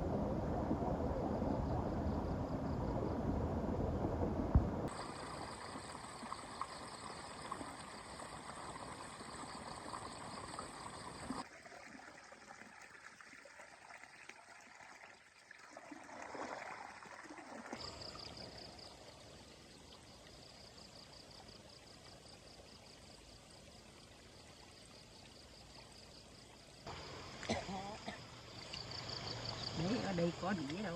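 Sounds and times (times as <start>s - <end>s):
water running and trickling: 4.9s - 30.9s.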